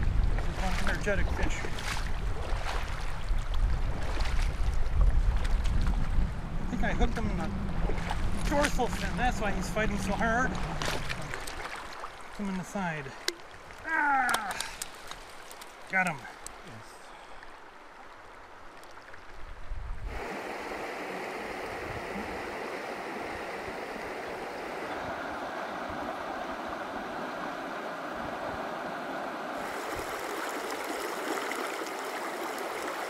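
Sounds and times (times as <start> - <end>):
creek water flowing: 0.0 - 5.6, 6.2 - 33.0.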